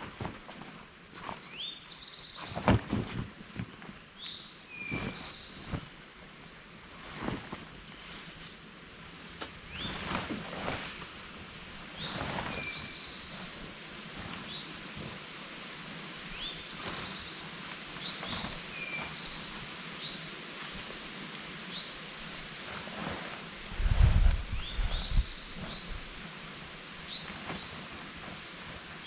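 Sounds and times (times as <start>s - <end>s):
outdoor ambience: 0.0s - 29.0s.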